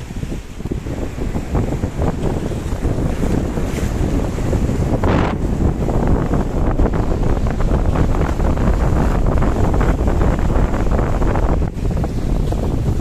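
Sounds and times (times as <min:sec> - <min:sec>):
waves washing on pebbly shore: 0:00.0 - 0:13.0
wind buffeting microphone: 0:00.0 - 0:13.0.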